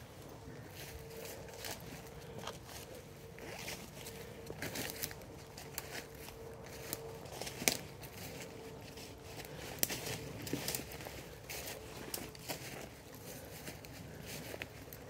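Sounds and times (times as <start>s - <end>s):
footsteps on dry leaves: 0.0s - 15.0s.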